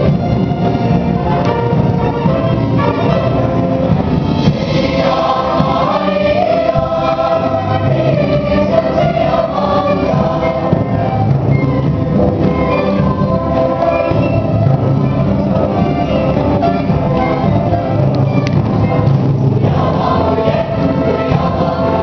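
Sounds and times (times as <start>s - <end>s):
strings: 0.0s - 22.0s
choir singing: 4.2s - 22.0s.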